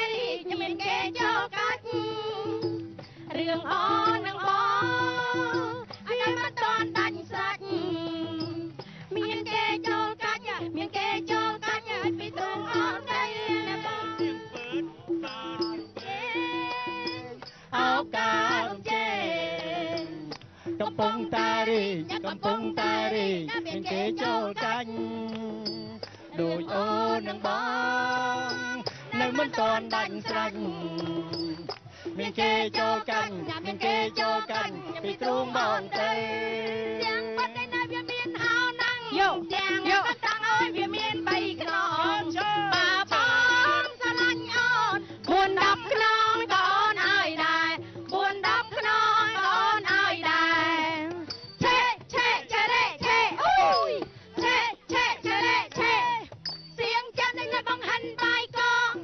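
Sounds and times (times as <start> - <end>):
woman singing into a microphone: 0.0 - 59.0.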